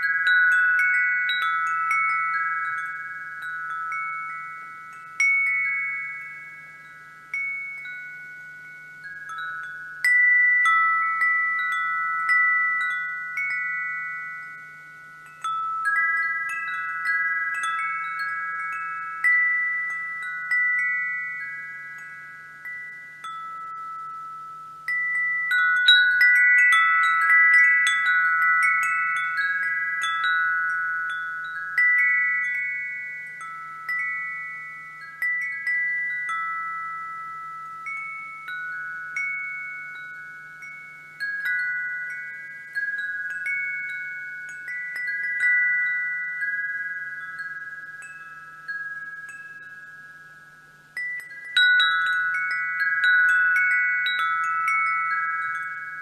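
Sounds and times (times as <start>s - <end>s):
wind chime ringing: 0.0s - 56.0s.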